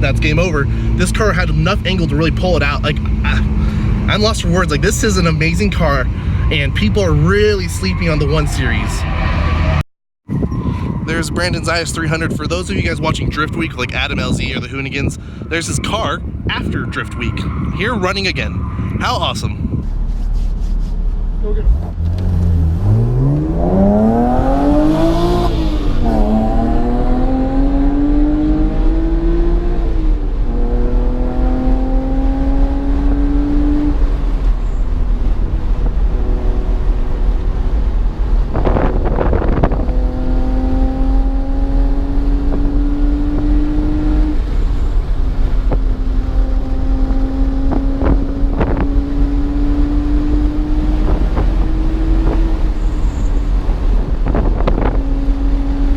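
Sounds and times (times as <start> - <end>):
car engine at full throttle: 0.0 - 55.9.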